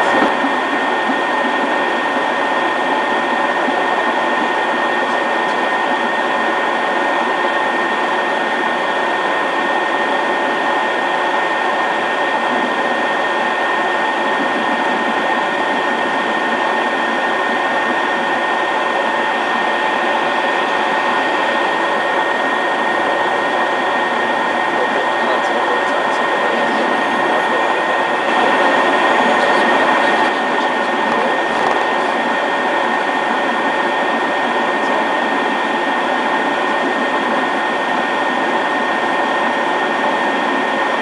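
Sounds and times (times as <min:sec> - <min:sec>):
jet engines running: 0:00.0 - 0:41.0
thin high whine: 0:00.0 - 0:41.0.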